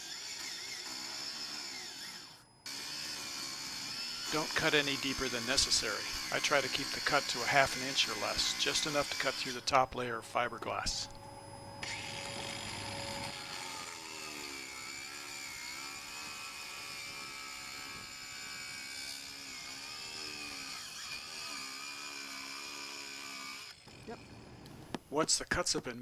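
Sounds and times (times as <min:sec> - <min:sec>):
angle grinder cutting fiberglass: 0:00.0 - 0:11.1, 0:11.8 - 0:24.5.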